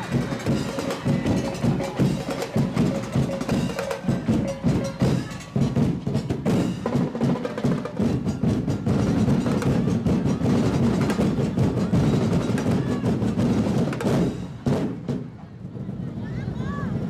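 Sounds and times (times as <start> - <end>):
drums and wood blocks beat: 0.0 - 17.0.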